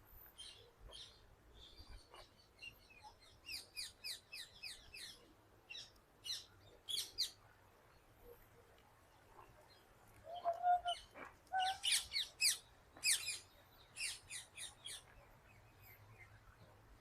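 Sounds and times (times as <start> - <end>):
small birds chirping: 0.2 - 17.0.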